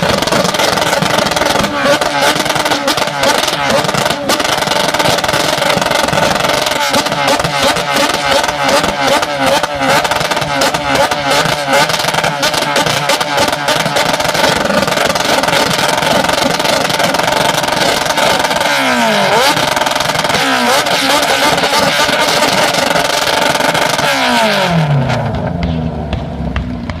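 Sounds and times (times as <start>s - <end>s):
engine crackles: 0.0s - 27.0s
vehicle engines revving: 0.0s - 27.0s.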